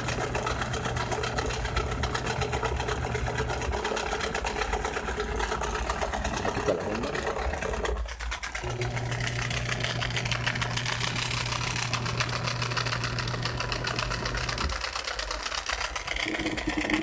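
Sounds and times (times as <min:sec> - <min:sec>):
drain pump rattling: 0:00.0 - 0:17.0
low motor hum: 0:00.0 - 0:17.0.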